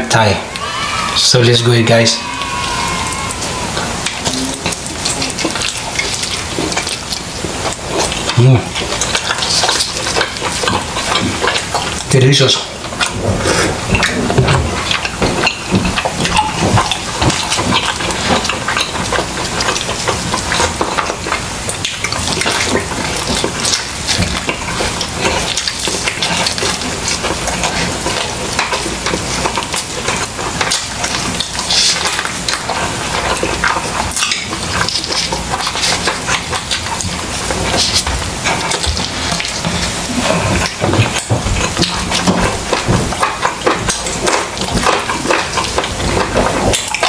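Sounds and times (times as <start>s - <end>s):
close-miked chewing: 0.0s - 47.0s.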